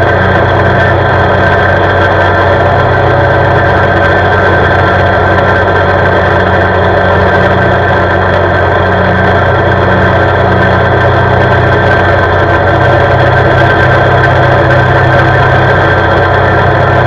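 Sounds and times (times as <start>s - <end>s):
atv engine running: 0.0s - 17.0s
road noise: 0.0s - 17.0s.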